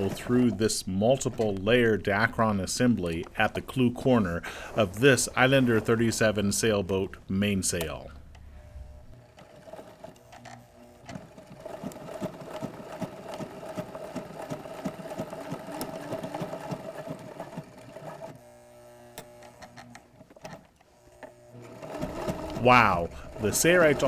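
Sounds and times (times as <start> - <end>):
sewing machine stitching: 0.0 - 6.4, 8.6 - 18.4, 19.1 - 24.0
sewing machine motor hum: 0.0 - 6.8, 8.0 - 24.0.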